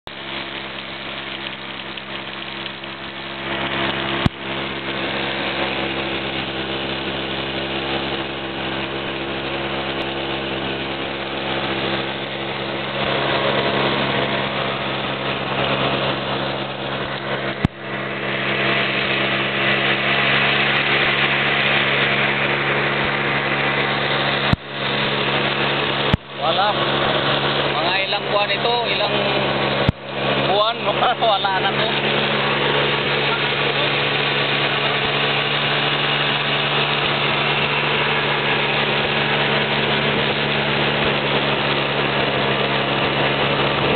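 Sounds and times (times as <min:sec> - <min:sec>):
atv engine humming: 0:00.0 - 0:43.9.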